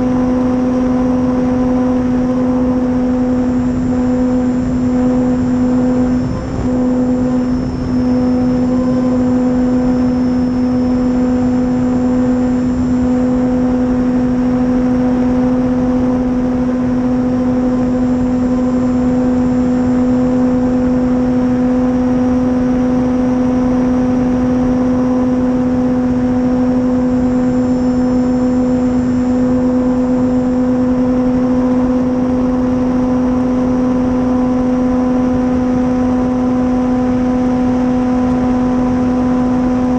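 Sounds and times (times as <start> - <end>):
model plane motor drone: 0.0 - 39.9
wind rush: 0.0 - 39.9.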